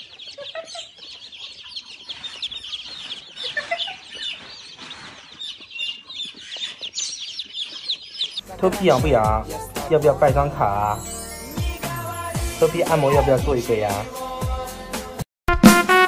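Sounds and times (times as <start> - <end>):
baby chicks peeping: 0.0 - 14.9.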